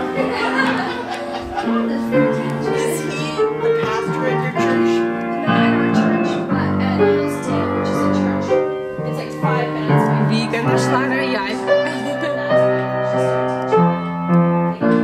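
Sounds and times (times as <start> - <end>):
grand piano melody: 0.0 - 15.0.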